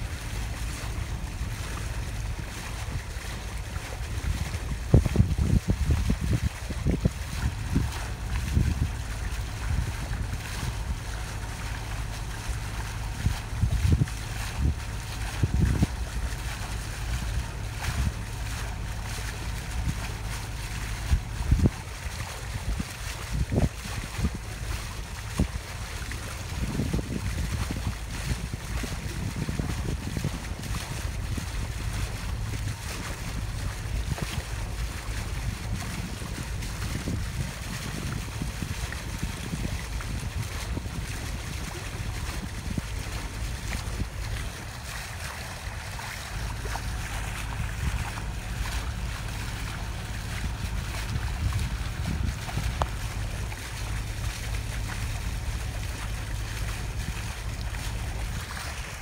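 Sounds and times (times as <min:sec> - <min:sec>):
boat engine rumbling: 0:00.0 - 0:59.0
water noise: 0:00.0 - 0:59.0
wind buffeting microphone: 0:00.0 - 0:59.0.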